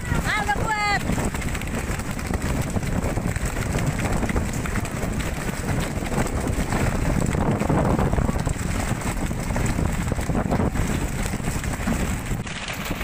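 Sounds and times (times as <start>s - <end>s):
low rumble of boat and water: 0.0s - 13.0s
wind buffeting microphone: 0.0s - 13.0s.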